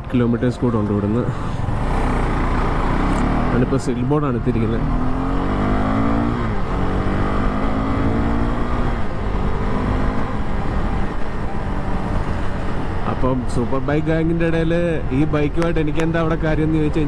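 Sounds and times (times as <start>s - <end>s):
wind and road noise: 0.0s - 17.0s
motorcycle engine accelerating: 0.6s - 17.0s.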